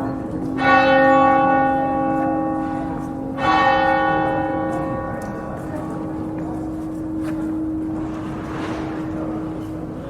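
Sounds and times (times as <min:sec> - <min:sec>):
church bell humming: 0:00.0 - 0:10.0.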